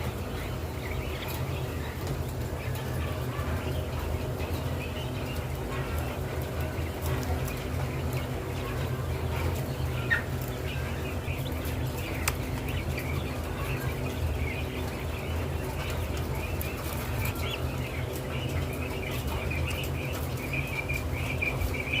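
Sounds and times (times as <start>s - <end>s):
birds chirping and calling: 0.0s - 22.0s
steady low hum: 0.0s - 22.0s.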